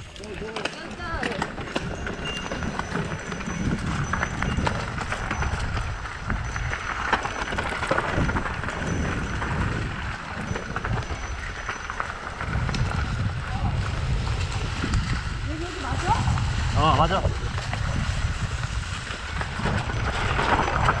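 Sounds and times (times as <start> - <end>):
bike clattering and rattling: 0.0 - 21.0
bike tyres on dirt: 0.0 - 21.0.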